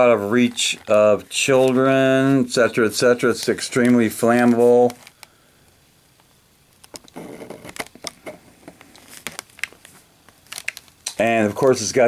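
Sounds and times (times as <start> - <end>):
plastic packaging rustling: 0.0 - 5.4, 6.8 - 12.0.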